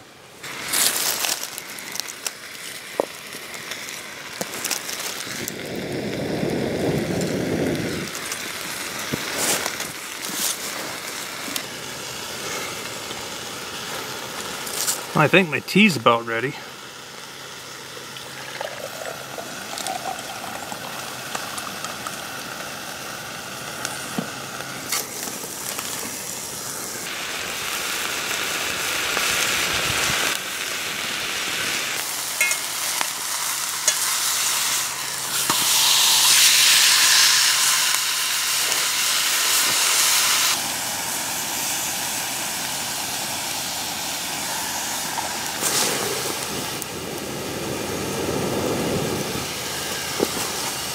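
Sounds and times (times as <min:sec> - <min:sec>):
campfire crackling: 0:00.0 - 0:50.9
burger sizzling in skillet: 0:00.4 - 0:50.9.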